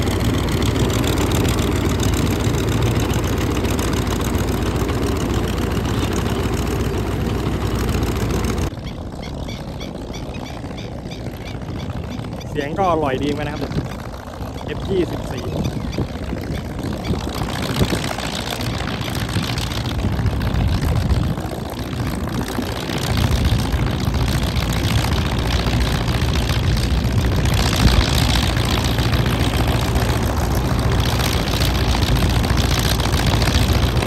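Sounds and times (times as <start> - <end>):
diesel tractor engine running: 0.0 - 34.0.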